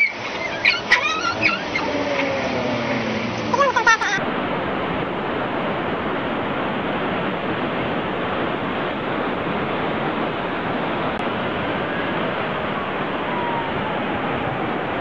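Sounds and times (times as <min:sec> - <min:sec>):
surf washing: 0:00.0 - 0:15.0.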